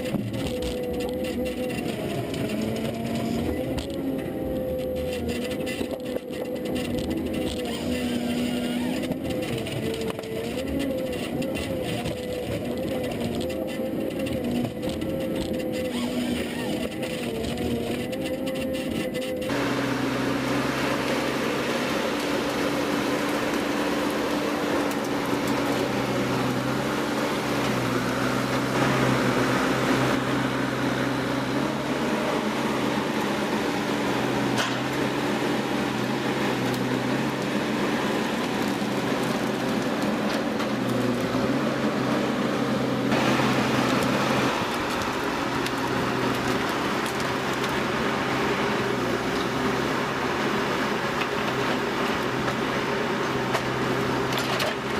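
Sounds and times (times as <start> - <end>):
machine engine humming: 0.0 - 54.9
noisy mechanical wash: 0.0 - 54.9.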